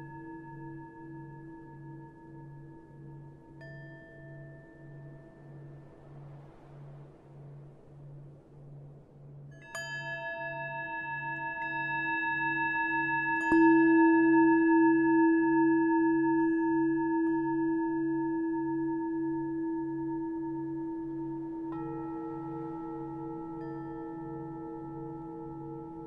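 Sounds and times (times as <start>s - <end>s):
singing bowls ringing: 0.0s - 5.9s, 9.5s - 26.0s.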